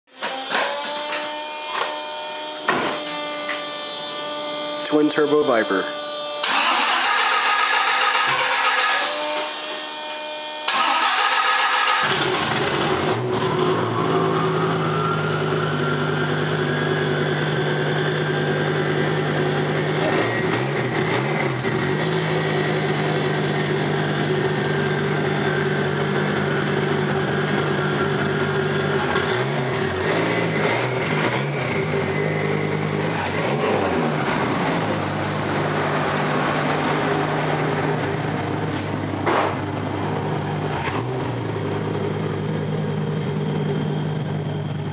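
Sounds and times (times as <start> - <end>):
engine revving: 0.3 - 44.9
rising engine whine: 0.3 - 44.9
car engine starting and idling: 6.4 - 9.5, 10.7 - 44.9.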